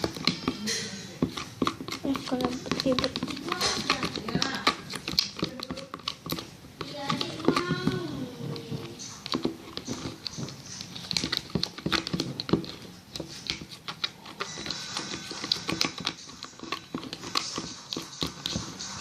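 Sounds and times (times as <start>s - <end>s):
spoon clicking and scraping container: 0.0s - 19.0s.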